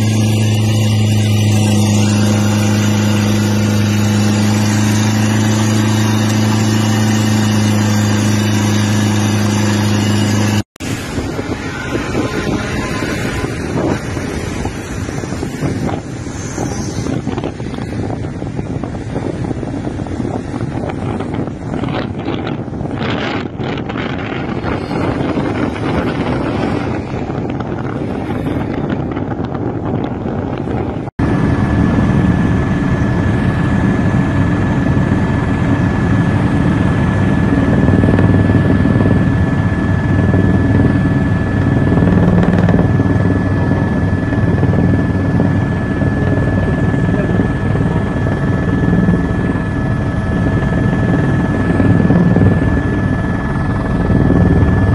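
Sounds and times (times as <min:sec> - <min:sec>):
helicopter rotor and engine noise: 0:00.0 - 0:54.9
road and vehicle noise: 0:00.0 - 0:54.9
wind on microphone: 0:00.0 - 0:54.9.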